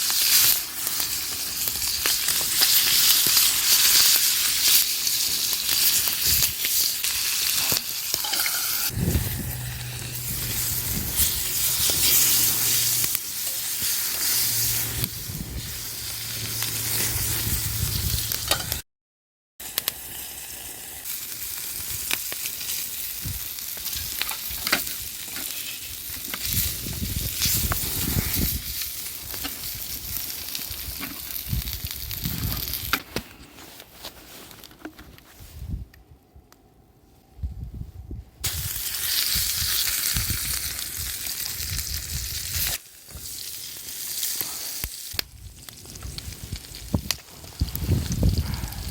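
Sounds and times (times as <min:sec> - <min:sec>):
food sizzling in a pan: 0:00.0 - 0:18.8, 0:19.6 - 0:32.9, 0:38.5 - 0:48.8.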